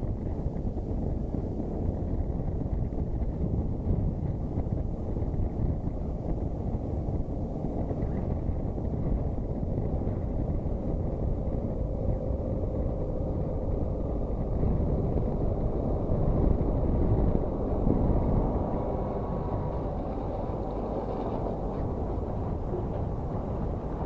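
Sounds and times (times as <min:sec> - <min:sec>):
wind rumble on microphone: 0:00.0 - 0:24.0
tractor diesel engine running: 0:04.1 - 0:24.0.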